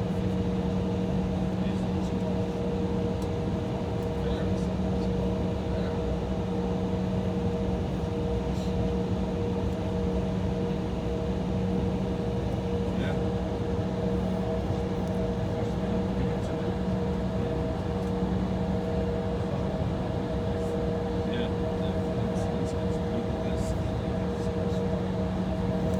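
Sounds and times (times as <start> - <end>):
airliner cabin droning hum: 0.0 - 25.9.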